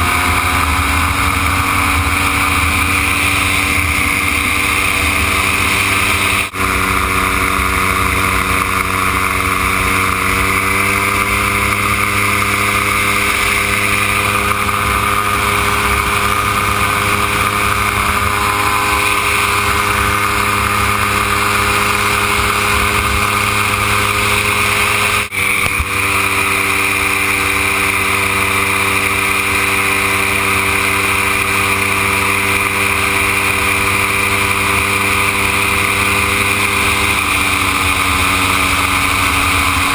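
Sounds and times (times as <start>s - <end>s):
gyroplane engine and propeller: 0.0s - 39.9s.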